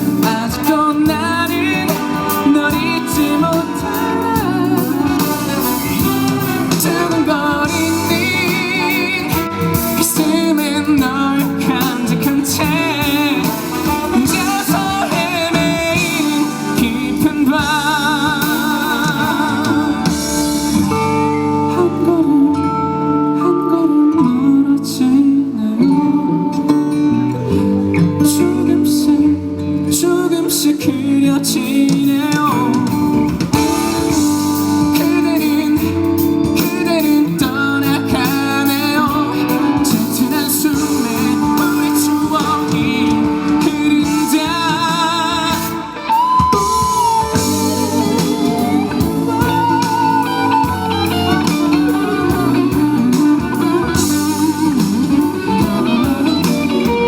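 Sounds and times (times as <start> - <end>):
live band with guitar: 0.0 - 57.0.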